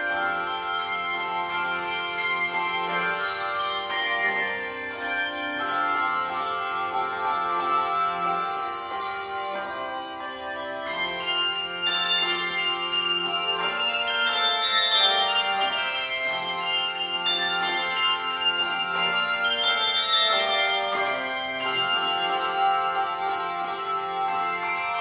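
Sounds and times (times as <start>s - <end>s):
handbell choir ringing chords: 0.0s - 25.0s.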